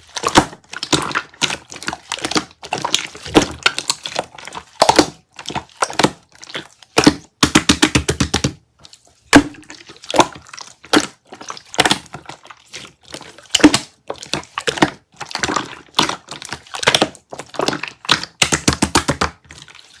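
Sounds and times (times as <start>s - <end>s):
hands squishing slime: 0.0s - 20.0s.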